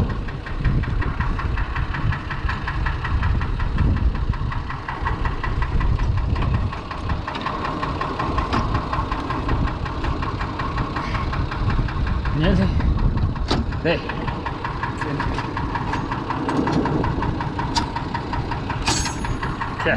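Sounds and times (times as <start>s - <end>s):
tractor diesel engine idling: 0.0s - 19.9s.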